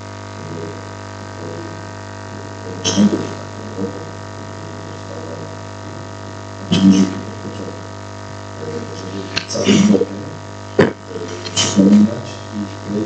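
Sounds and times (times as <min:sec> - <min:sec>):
electrical mains hum: 0:00.0 - 0:13.0
man speaking into a microphone: 0:00.4 - 0:13.0.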